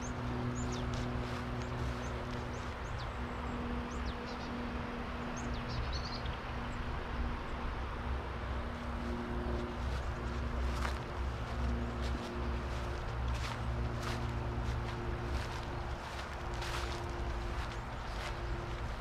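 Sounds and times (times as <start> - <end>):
low mechanical hum: 0.0 - 19.0
noisy wash: 0.0 - 19.0.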